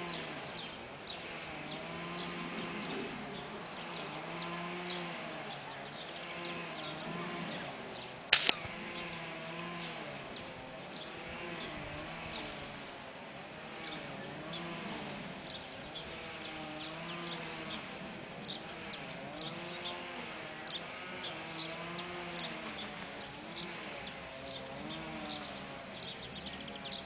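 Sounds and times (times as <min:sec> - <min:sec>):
insect buzzing: 0:00.0 - 0:27.0.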